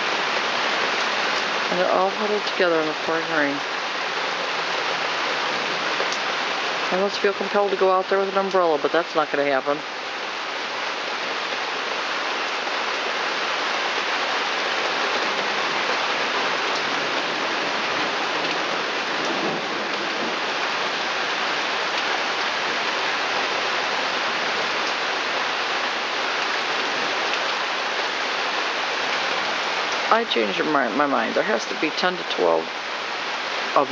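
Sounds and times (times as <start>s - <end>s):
pouring rain: 0.0s - 33.9s.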